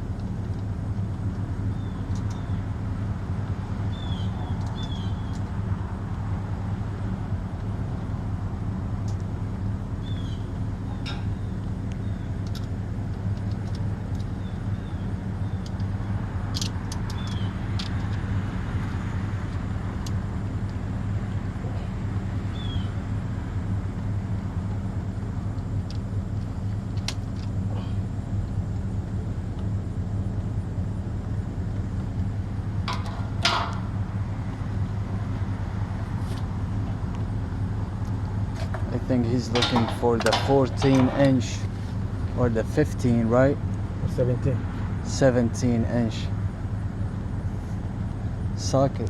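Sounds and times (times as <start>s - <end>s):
engine idling: 0.0s - 49.0s.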